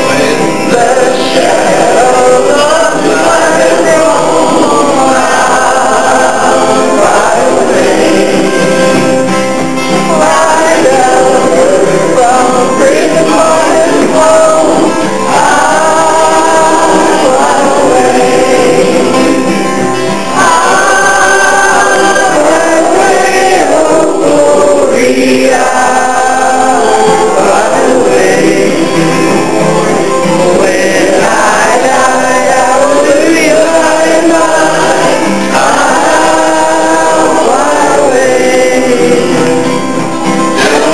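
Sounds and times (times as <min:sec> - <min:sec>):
men singing gospel song: 0:00.0 - 0:40.9.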